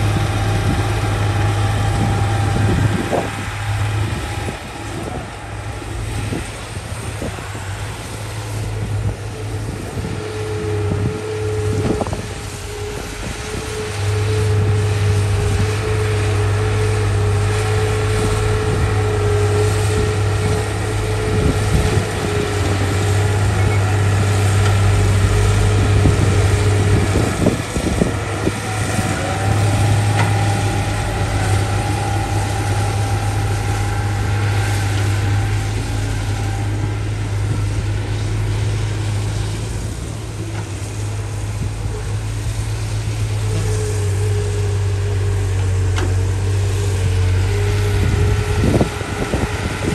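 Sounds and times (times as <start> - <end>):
heavy machinery diesel engine: 0.0 - 49.9
machinery whine: 0.0 - 49.9.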